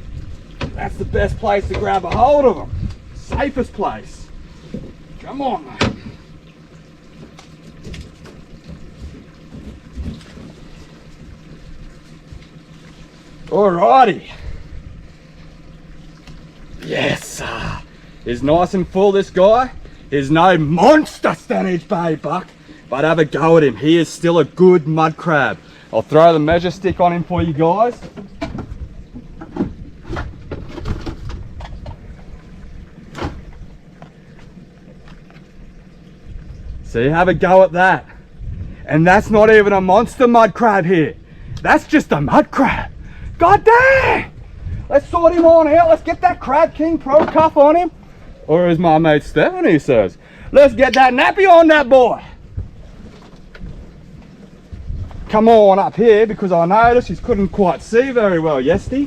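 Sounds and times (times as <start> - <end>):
steady low rumble: 0.0 - 27.7, 28.4 - 59.0.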